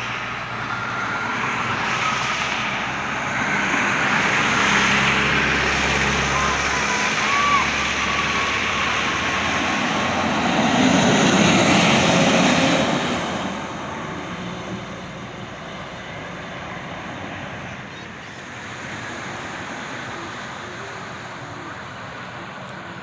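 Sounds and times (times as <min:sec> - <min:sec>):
large vehicle passing at speed: 0:00.0 - 0:23.0.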